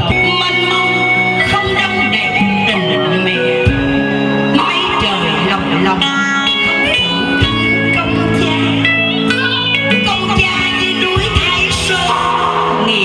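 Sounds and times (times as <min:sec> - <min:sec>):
live guitar music: 0:00.0 - 0:13.0.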